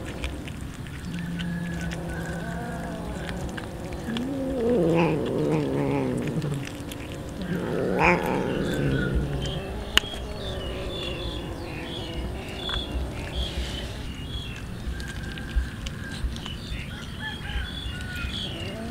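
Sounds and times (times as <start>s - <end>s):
cat growling: 0.0s - 15.3s, 18.4s - 18.9s.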